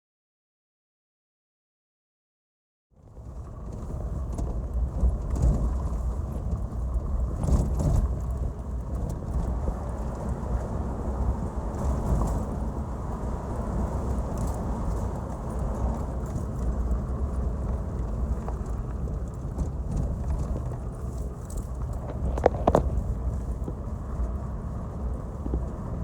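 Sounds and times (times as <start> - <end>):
engine and tyre rumble: 3.0 - 26.0.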